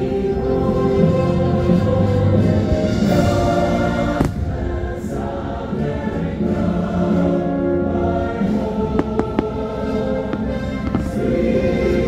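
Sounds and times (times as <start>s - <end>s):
choir singing held chords: 0.0s - 12.0s
orchestral music: 0.0s - 12.0s.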